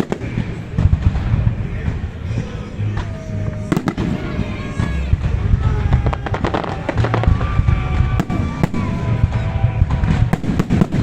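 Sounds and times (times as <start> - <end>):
firework bangs and cracks: 0.0 - 11.0
firework whistling: 0.0 - 11.0
low rumble: 0.3 - 10.4.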